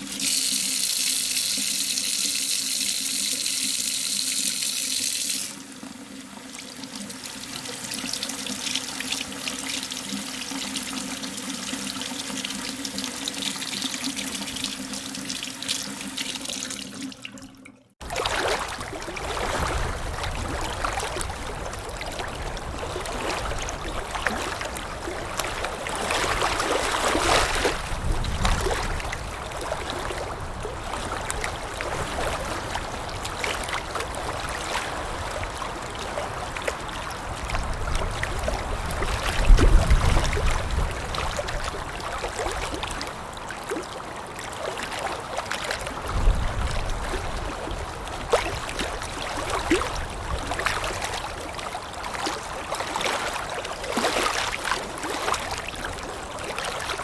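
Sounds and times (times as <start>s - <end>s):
water lapping: 5.5s - 57.0s.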